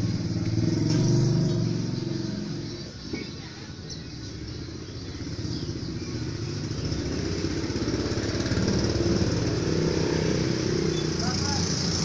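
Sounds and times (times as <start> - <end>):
small motorcycle engine approaching: 0.0 - 2.9, 4.2 - 12.0.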